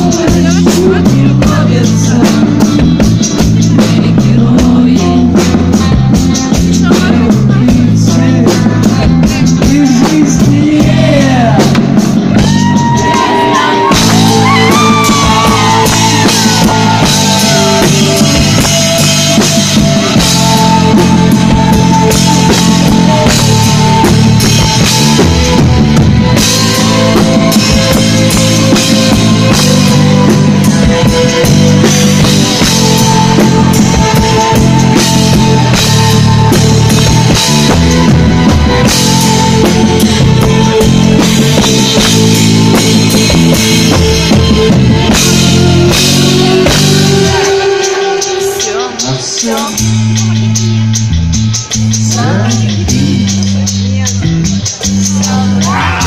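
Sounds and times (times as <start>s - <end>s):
rock band playing live: 0.0s - 56.0s
sliding lead guitar line: 0.0s - 56.0s.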